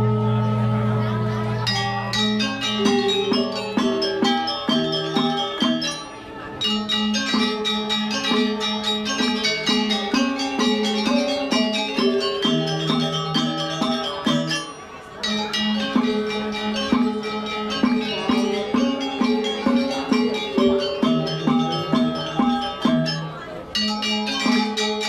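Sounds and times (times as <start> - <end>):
metallophones struck with mallets: 0.0 - 25.0
drums: 1.7 - 14.7, 15.6 - 23.3.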